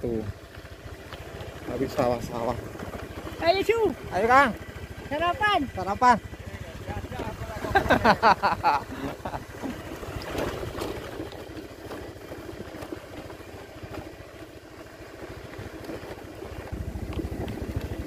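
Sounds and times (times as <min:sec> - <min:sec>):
small motorcycle engine running: 0:00.0 - 0:18.0.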